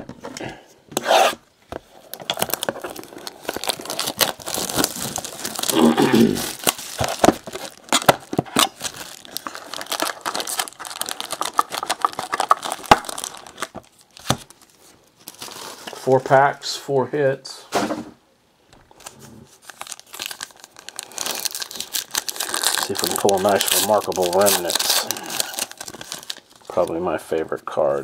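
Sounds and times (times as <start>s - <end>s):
foil card packs rustling: 1.9s - 16.3s, 18.9s - 27.0s
plastic shrink wrap crinkling: 1.9s - 16.3s, 18.9s - 27.0s.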